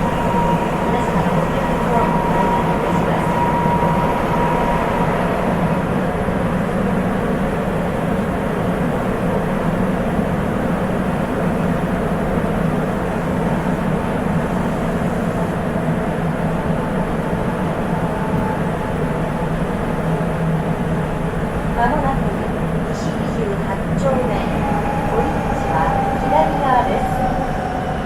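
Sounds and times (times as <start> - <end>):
subway train rumble and hum: 0.0 - 28.0.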